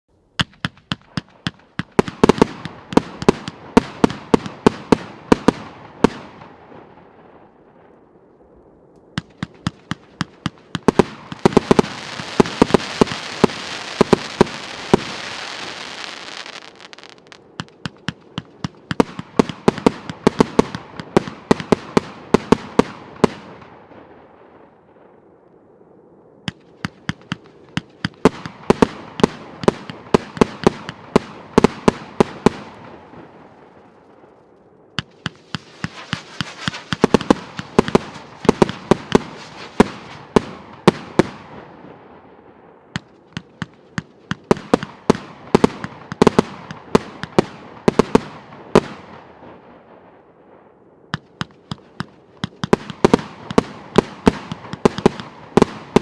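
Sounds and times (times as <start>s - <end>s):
crackling hiss: 0.2s - 49.5s
firework bangs: 0.4s - 6.5s, 9.2s - 24.1s, 26.5s - 34.3s, 35.0s - 42.0s, 43.0s - 49.3s, 51.2s - 56.0s.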